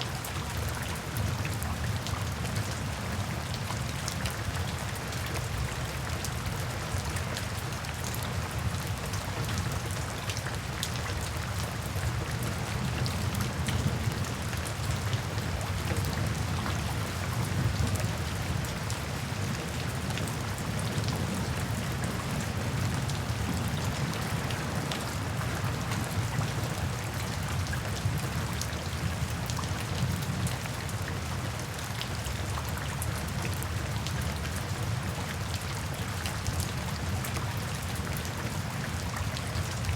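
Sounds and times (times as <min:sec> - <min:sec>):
low rain rumble: 0:00.0 - 0:39.9.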